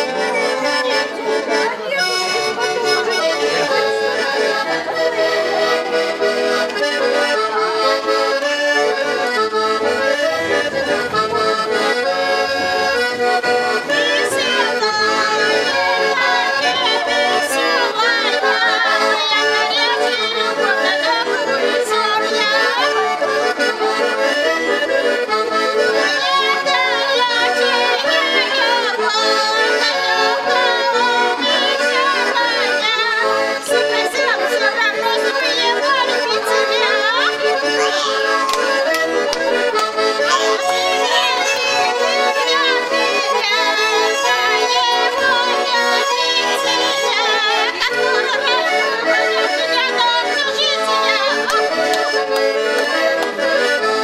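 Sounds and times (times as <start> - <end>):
button accordion playing folk tune: 0.0 - 54.0.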